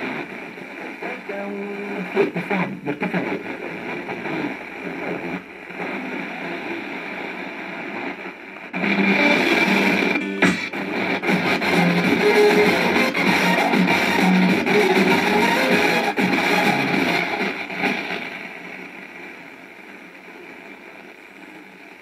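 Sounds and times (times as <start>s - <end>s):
faint radio broadcast: 0.0s - 22.0s
radio hiss: 0.0s - 22.0s.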